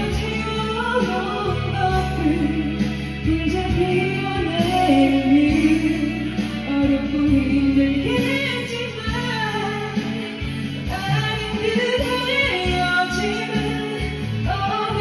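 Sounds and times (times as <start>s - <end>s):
karaoke backing track: 0.0s - 15.0s
woman singing a ballad: 0.0s - 15.0s.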